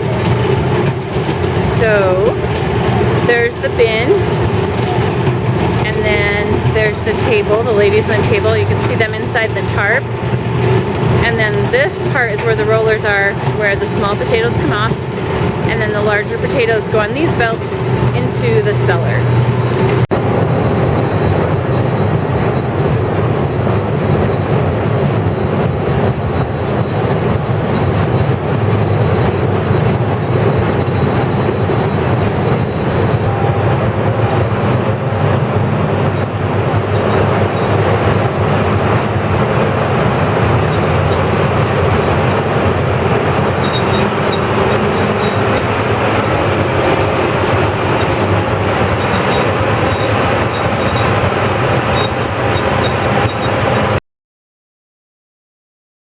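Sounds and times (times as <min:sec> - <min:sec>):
conveyor belts and rollers rumbling: 0:00.0 - 0:54.0.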